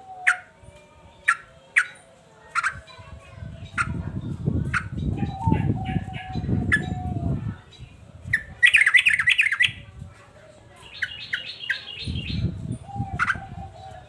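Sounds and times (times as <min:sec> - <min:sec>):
bulbul singing: 0:00.0 - 0:09.9, 0:10.8 - 0:14.0.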